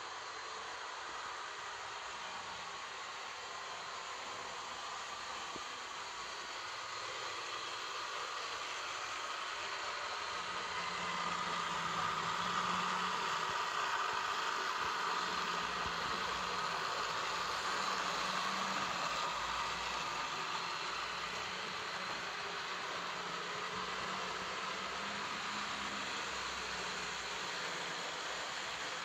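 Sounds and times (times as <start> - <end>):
model train motors whirring: 0.0 - 29.0.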